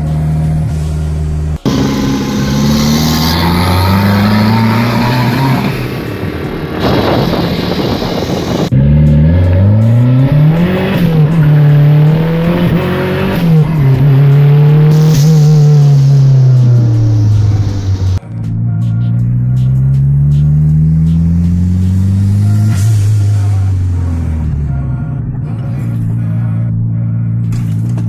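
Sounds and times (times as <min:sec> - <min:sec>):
turbocharged car engine revving: 0:00.0 - 0:28.0.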